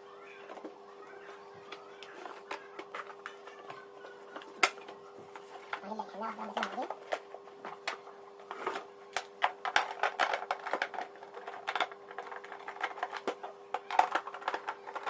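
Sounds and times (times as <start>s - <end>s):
faint hum: 0.0s - 15.0s
plastic parts handled: 0.5s - 15.0s.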